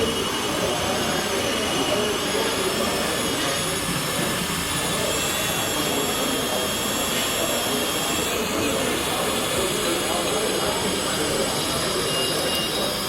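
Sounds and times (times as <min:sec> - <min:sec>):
high-pitched electric motor whines: 0:00.0 - 0:13.0.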